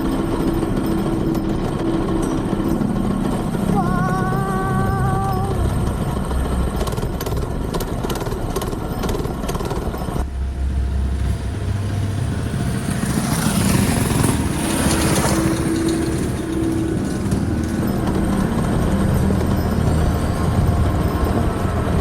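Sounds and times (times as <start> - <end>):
mini bike engine running: 0.0 - 22.0.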